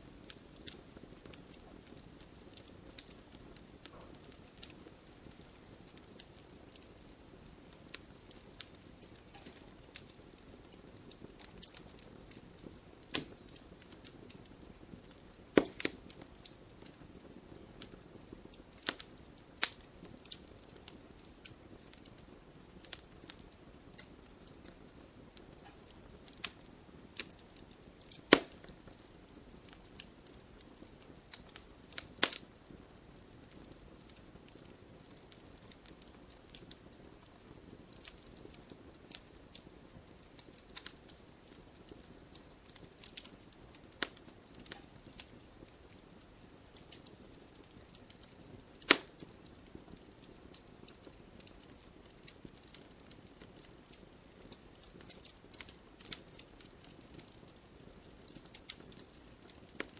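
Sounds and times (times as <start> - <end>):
fire popping and snapping: 0.0 - 59.9
low hiss of burning: 0.0 - 59.9.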